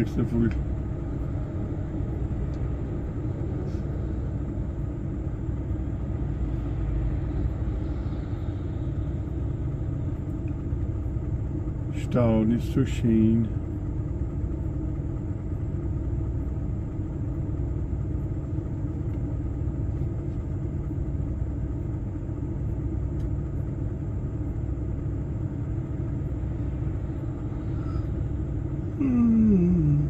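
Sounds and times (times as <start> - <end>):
lorry diesel engine rumble: 0.0 - 30.0.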